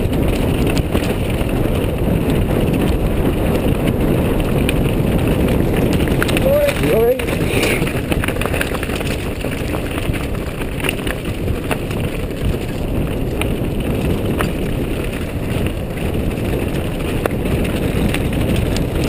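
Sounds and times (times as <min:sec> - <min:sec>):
bike rattling: 0:00.0 - 0:19.0
knocks of bike on rocks: 0:00.0 - 0:19.0
wind buffeting microphone: 0:00.0 - 0:19.0.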